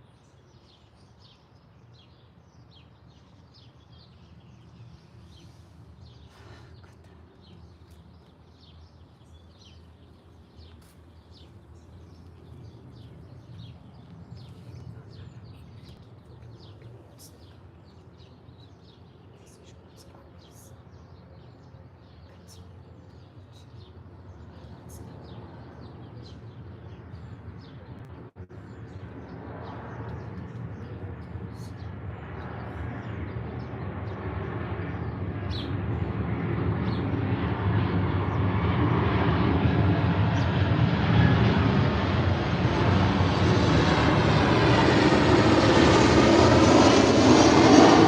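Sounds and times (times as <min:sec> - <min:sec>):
small birds chirping: 0:00.0 - 0:42.1.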